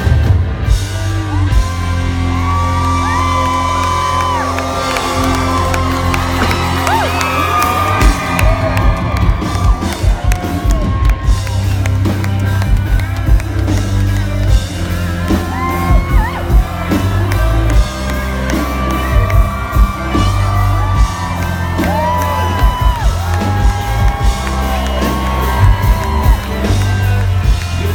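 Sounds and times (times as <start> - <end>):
live country band playing: 0.0 - 27.9
fans whooping: 1.0 - 27.9.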